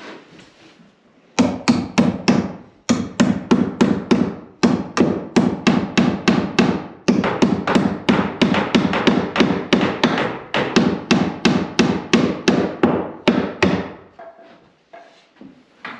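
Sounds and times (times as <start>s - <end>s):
hammer driving nails into wood: 1.4s - 14.3s.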